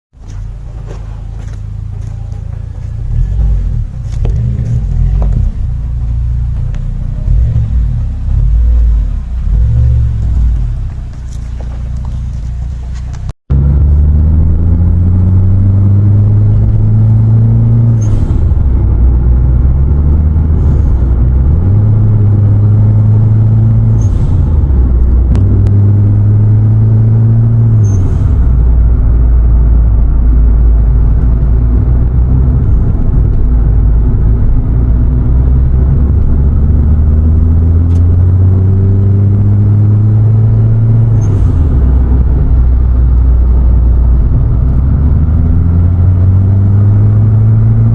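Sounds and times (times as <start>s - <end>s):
turbocharged engine revving: 0.2s - 47.9s.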